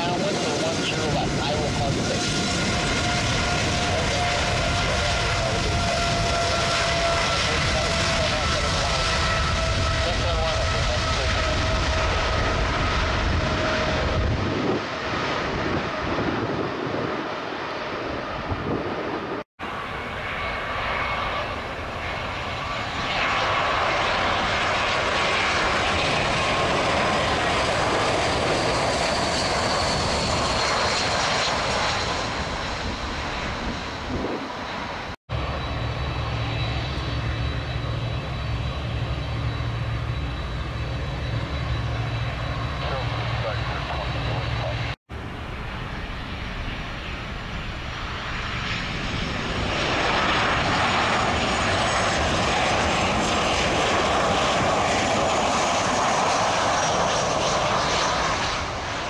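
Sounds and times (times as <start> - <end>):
jet engine idle hum and whine: 0.0 - 59.0
jet engine noise on approach: 0.0 - 59.0
jet engines rumbling: 0.0 - 59.0.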